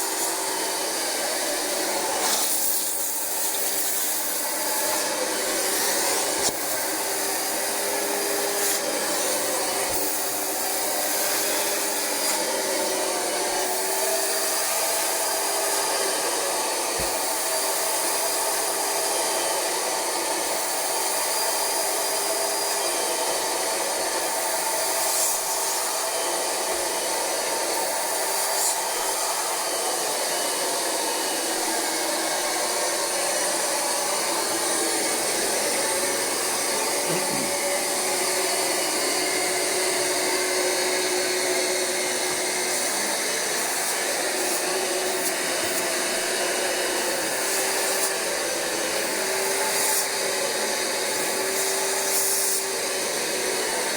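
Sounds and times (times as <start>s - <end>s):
vacuum motor whine: 0.0s - 53.9s.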